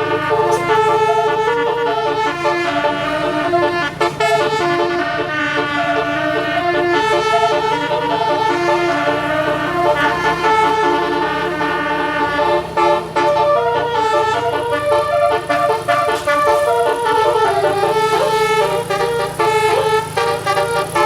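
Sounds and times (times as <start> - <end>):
bus horn playing melodic notes: 0.0 - 21.0.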